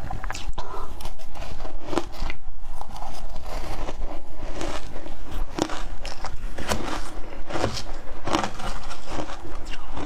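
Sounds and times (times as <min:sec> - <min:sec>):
ice being chewed crunching: 0:01.0 - 0:10.0.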